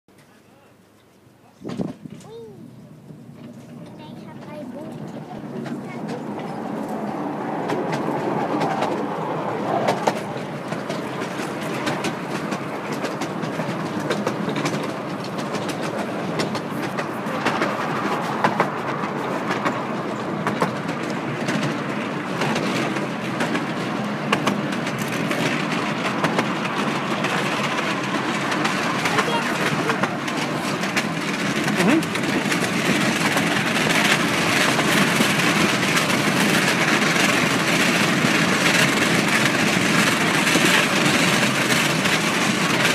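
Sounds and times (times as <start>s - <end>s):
miniature train rumbling: 0.1s - 42.9s
wheels clicking over rail joints: 0.1s - 42.9s.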